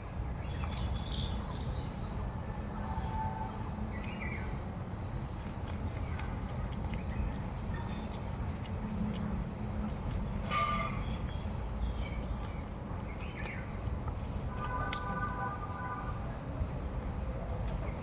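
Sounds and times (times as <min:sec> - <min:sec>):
insect drone: 0:00.0 - 0:18.0.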